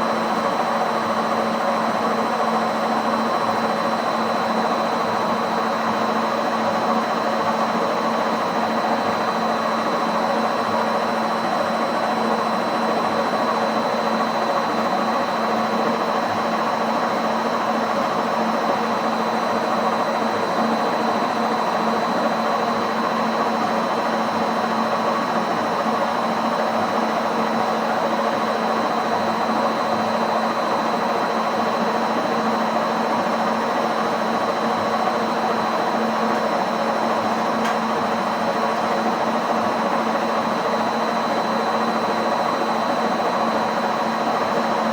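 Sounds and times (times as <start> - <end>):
washing machine motor hum: 0.0 - 44.9.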